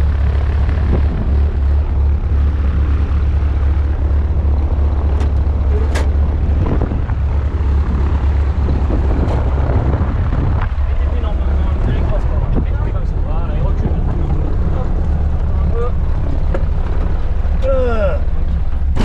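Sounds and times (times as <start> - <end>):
light aircraft engine idling: 0.0 - 19.0.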